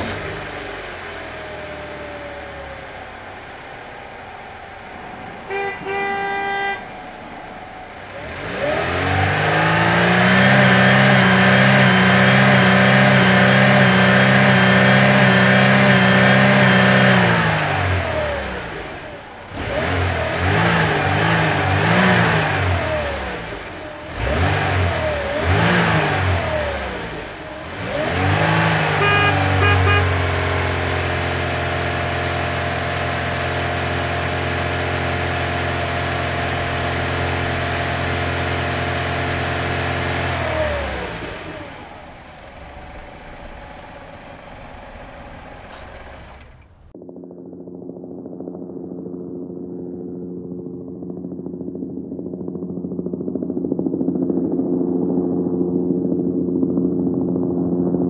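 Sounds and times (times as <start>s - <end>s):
toy vehicle electronic engine drone: 0.0s - 46.9s.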